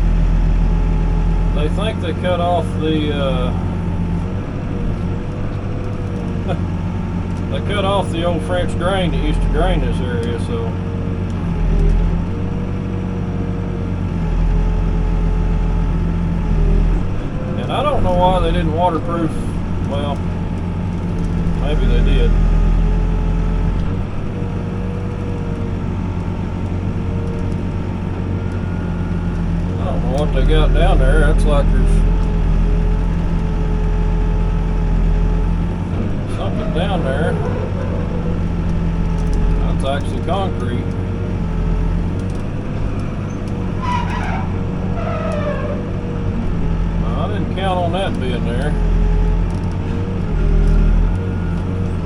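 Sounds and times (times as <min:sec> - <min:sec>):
backhoe diesel engine digging: 0:00.0 - 0:52.0
hydraulic whine: 0:00.0 - 0:52.0.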